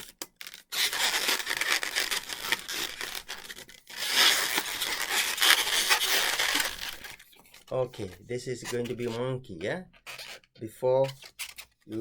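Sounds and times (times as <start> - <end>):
balloons rubbing while twisted: 0.0 - 12.0.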